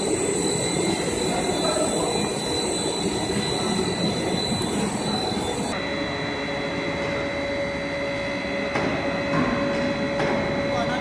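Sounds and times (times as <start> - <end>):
high-pitched machine whines: 0.0 - 11.0.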